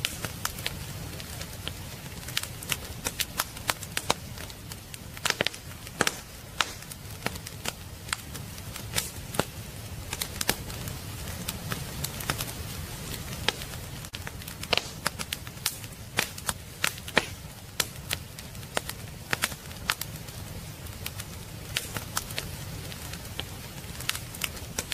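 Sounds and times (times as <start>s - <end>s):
firewood crackling and popping: 0.0s - 24.9s
low rumble of flames: 0.0s - 24.9s.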